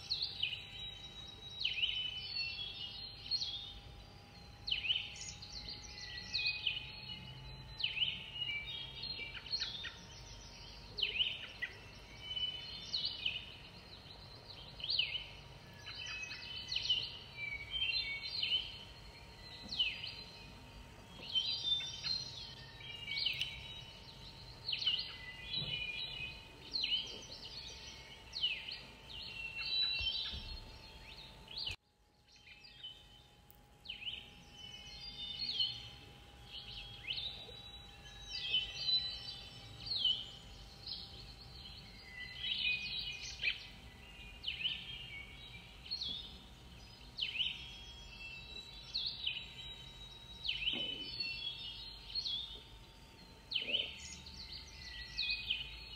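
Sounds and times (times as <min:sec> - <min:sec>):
faint steady hum: 0:00.0 - 0:55.9
songbirds singing: 0:00.0 - 0:55.9.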